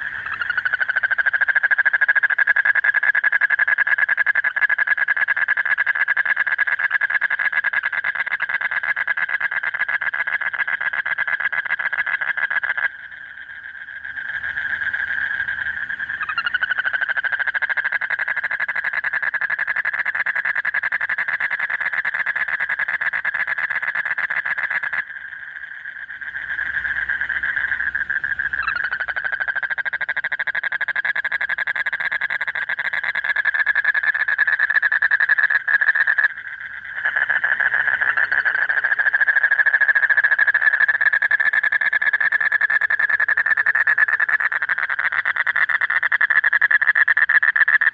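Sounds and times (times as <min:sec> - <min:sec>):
toads trilling: 0:00.0 - 0:47.9.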